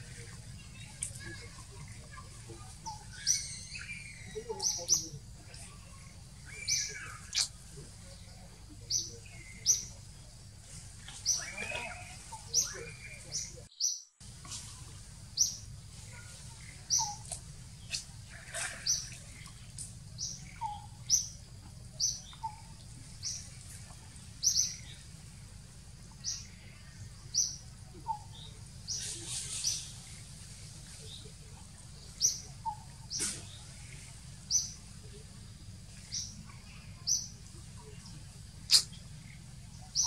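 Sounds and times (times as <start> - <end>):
bird chirping: 0.0 - 40.0
steady low hum: 0.0 - 40.0.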